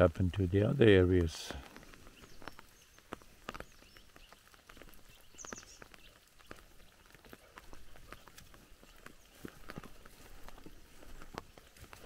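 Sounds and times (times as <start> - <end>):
footsteps in grass: 0.0 - 12.0
bird chirping: 0.4 - 12.0.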